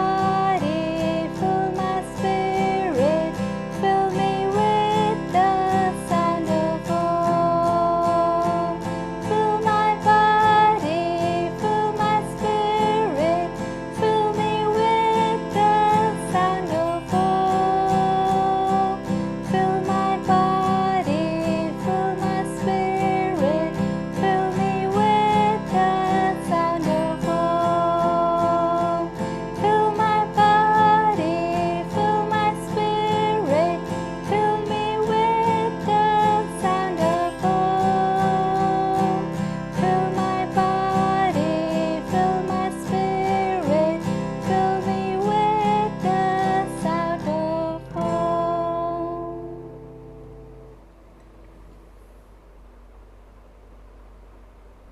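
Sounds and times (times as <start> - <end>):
person singing a chant melody: 0.0 - 49.7
acoustic guitar strumming: 0.0 - 51.8.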